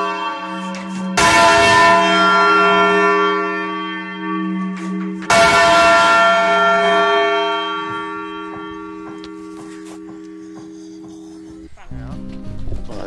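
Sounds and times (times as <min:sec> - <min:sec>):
church bell ringing: 0:00.0 - 0:11.1.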